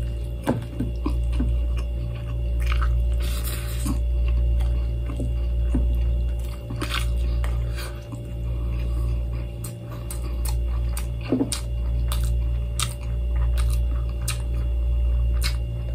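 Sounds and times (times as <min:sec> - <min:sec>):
low hum: 0:00.0 - 0:15.9
person chewing wetly: 0:00.0 - 0:15.9.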